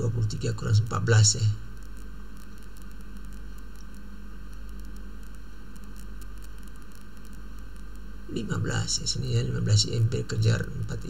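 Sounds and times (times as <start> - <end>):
low electrical hum: 0.0 - 11.0
microphone hiss: 0.0 - 11.0.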